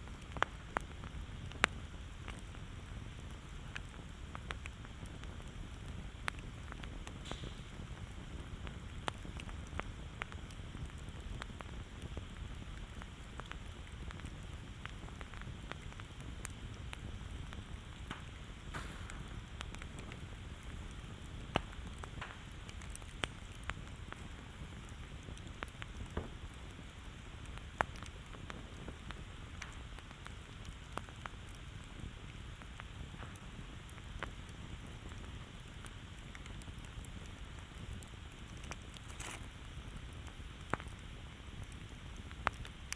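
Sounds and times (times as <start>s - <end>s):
campfire crackling: 0.0s - 42.9s
sharp pops of fire: 0.0s - 42.9s.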